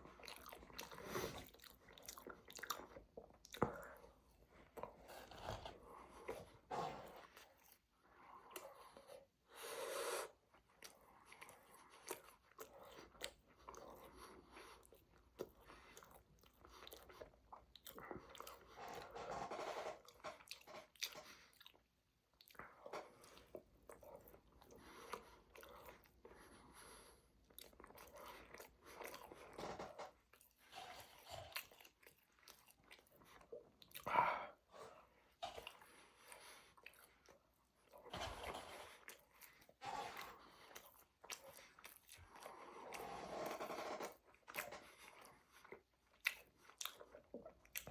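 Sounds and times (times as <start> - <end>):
person chewing food: 0.0 - 9.4, 10.3 - 47.9.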